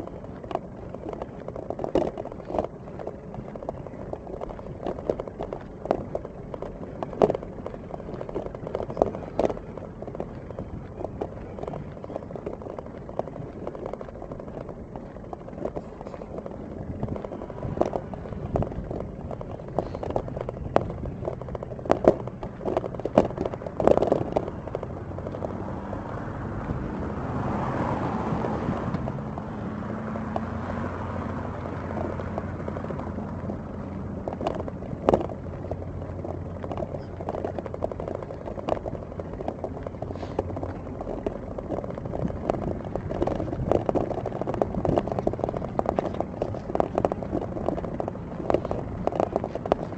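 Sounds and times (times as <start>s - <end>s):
car passing: 0.0s - 49.9s
sharp clicks and knocks: 0.0s - 49.9s.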